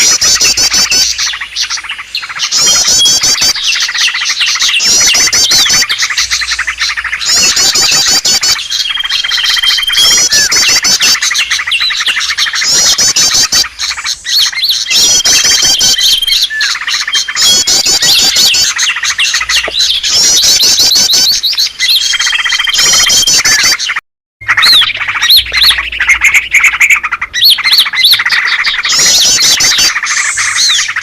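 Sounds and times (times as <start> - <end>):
held bird whistle: 0.0 - 31.0
small birds chirping and trilling: 0.0 - 31.0.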